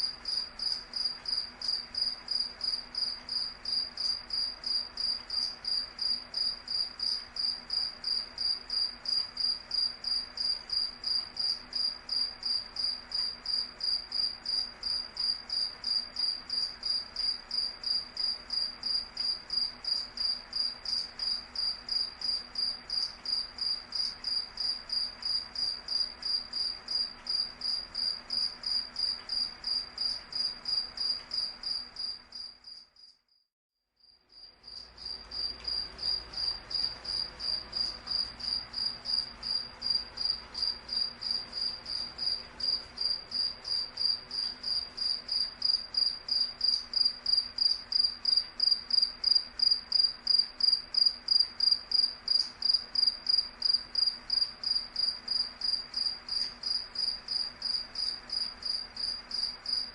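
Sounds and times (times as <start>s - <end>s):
cricket chirping: 0.0s - 33.4s, 34.0s - 59.9s.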